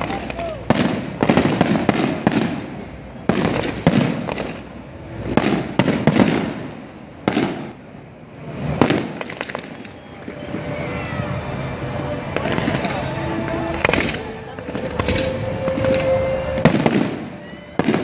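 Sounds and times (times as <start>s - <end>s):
firework crackle: 0.0s - 18.0s.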